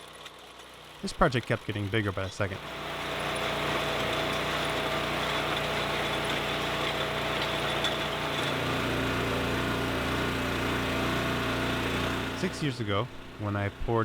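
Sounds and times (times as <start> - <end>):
small gasoline engine running: 0.0 - 14.0.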